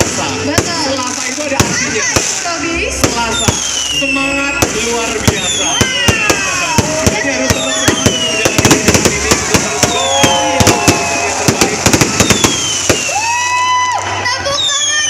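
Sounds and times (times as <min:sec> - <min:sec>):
fireworks bangs and crackles: 0:00.0 - 0:15.0
fireworks whistles: 0:00.0 - 0:15.0.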